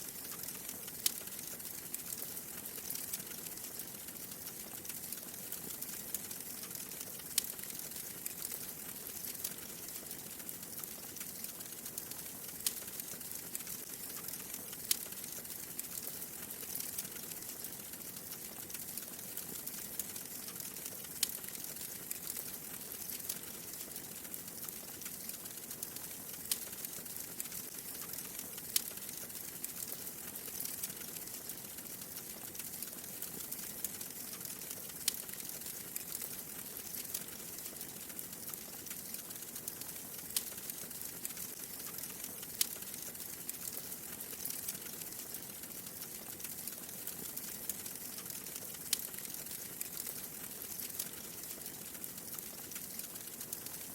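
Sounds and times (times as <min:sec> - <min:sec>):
wood fire crackling and popping: 0:00.1 - 0:53.9.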